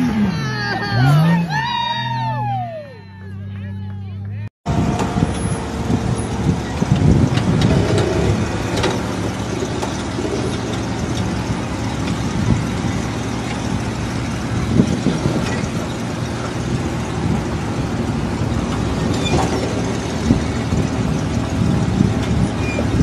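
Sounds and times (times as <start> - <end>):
truck engine low drone: 0.0 - 23.0.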